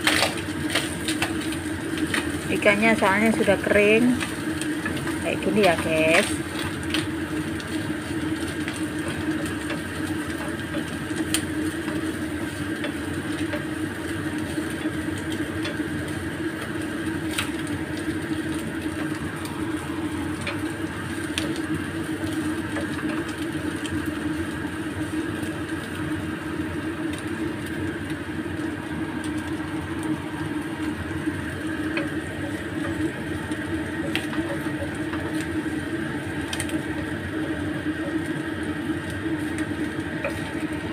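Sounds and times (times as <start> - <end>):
food stir-frying in a pan: 0.0 - 40.9
machine-like hum: 0.0 - 40.9.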